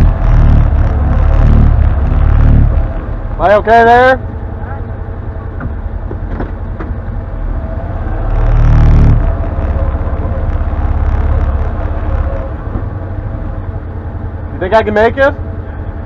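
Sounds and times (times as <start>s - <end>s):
engine running at low speed: 0.0s - 16.0s.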